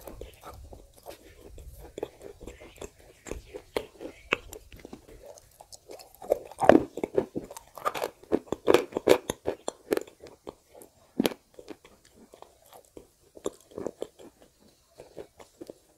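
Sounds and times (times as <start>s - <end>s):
mouth clicks: 0.0s - 12.8s
wet chewing: 0.0s - 15.9s.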